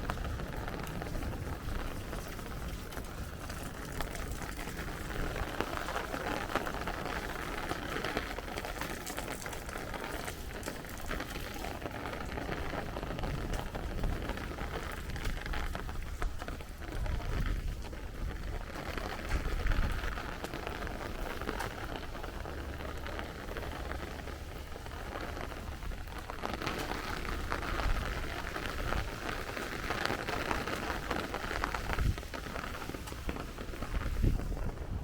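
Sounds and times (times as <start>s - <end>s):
rain spattering on hard surfaces: 0.0s - 35.0s.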